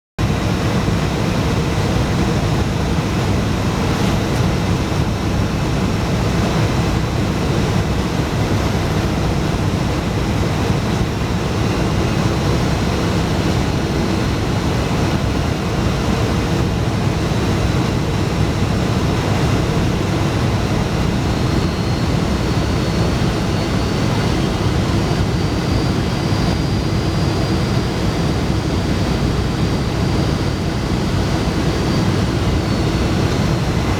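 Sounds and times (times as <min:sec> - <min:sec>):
high engine whine: 0:00.2 - 0:33.9
jet engine cabin rumble: 0:00.2 - 0:33.9.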